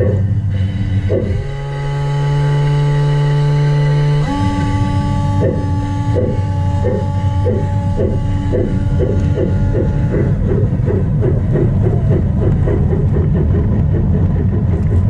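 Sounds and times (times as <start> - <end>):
model steam locomotive chuffing: 0.0 - 15.0
motor and gears drone: 0.0 - 15.0
multi-tone hum: 0.0 - 15.0.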